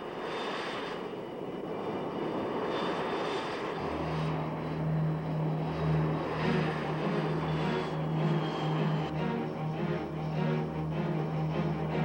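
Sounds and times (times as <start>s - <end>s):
aircraft engines rushing: 0.0s - 12.0s
steady low hum: 0.0s - 12.0s.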